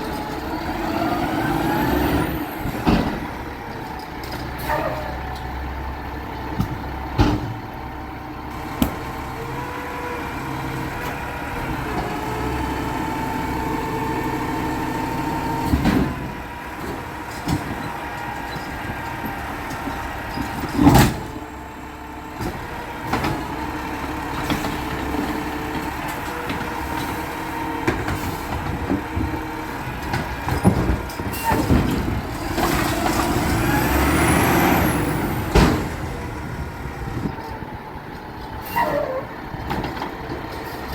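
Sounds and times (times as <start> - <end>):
garbage truck running: 0.0 - 40.9.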